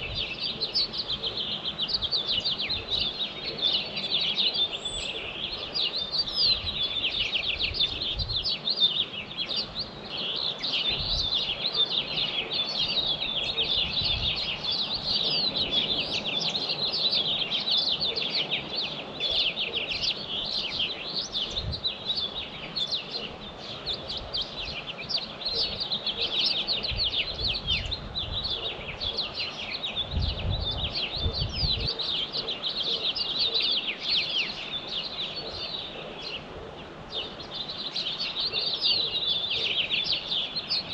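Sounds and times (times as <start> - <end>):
songbirds singing and chirping: 0.0 - 40.9.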